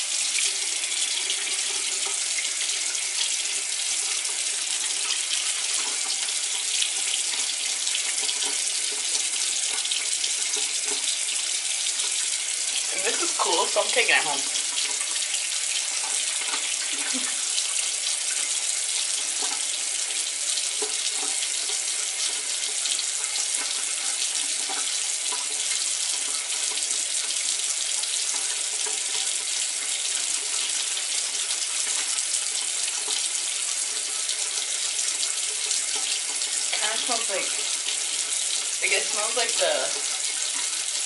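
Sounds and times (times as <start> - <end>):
tap running into sink: 0.3 - 33.4.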